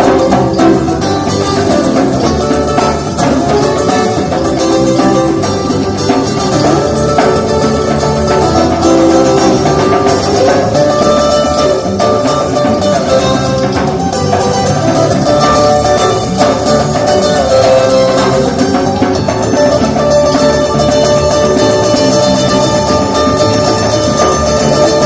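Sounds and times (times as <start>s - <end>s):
drums: 0.0s - 25.0s
electric guitar: 0.0s - 25.0s
live band instrumental: 0.0s - 25.0s.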